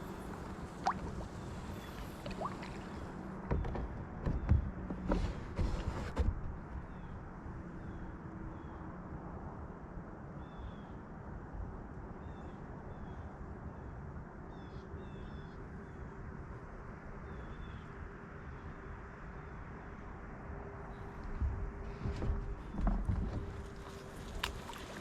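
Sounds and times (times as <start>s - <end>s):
water: 0.0s - 15.5s, 16.6s - 25.0s
wind: 0.0s - 25.0s.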